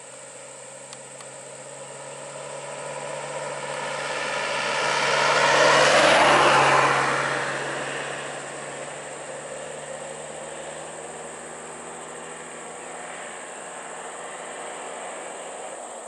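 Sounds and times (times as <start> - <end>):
truck driving past: 0.6 - 16.0.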